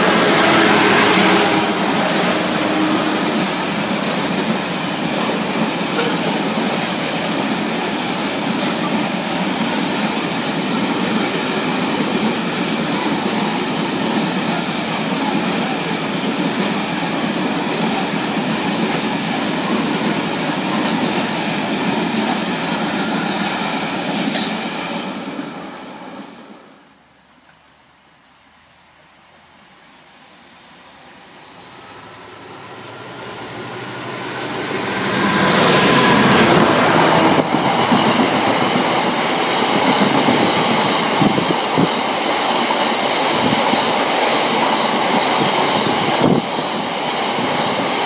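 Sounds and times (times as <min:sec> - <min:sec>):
freight train wheels rumbling: 0:00.0 - 0:27.1, 0:31.2 - 0:48.0.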